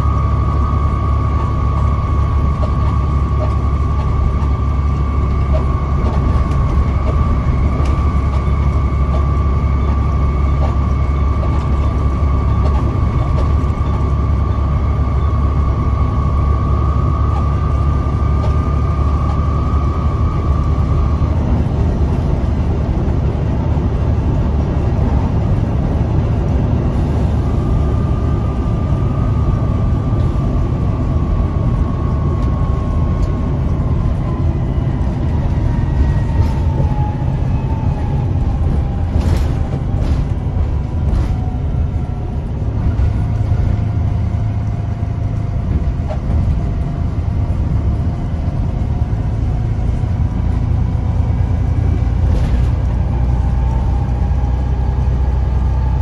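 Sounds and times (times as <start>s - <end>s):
bus engine and road rumble: 0.0s - 56.0s
faint whine dropping in pitch: 0.0s - 56.0s.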